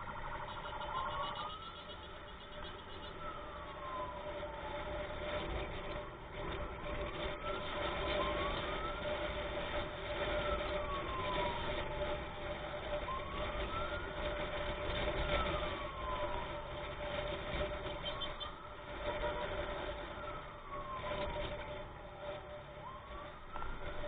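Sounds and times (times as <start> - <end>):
ambulance siren wailing: 0.0 - 24.0
droning tone: 0.0 - 24.0
road noise: 0.0 - 24.0.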